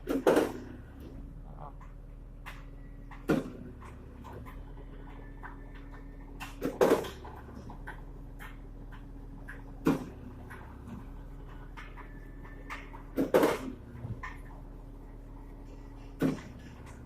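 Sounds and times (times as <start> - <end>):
sharp knocks and clicks: 0.0 - 17.0
truck engine running: 0.0 - 17.0.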